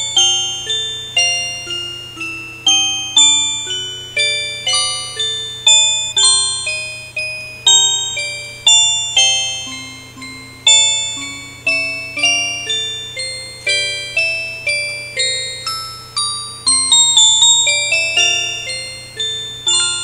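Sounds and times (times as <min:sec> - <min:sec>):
bell-like struck notes melody: 0:00.0 - 0:20.0.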